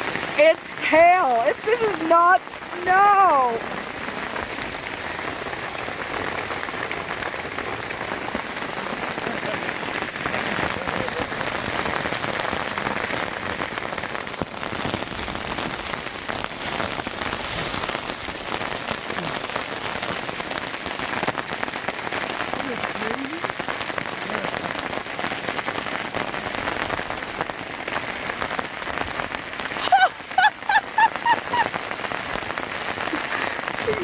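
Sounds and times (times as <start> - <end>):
hail pattering: 0.0 - 34.0.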